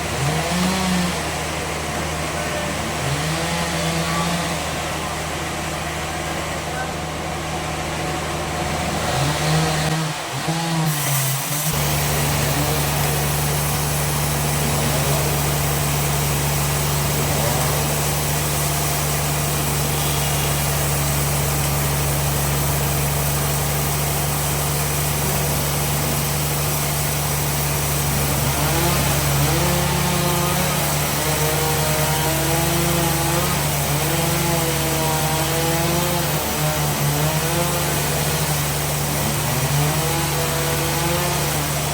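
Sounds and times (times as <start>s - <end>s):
bandsaw running: 0.0s - 6.6s, 7.2s - 41.9s.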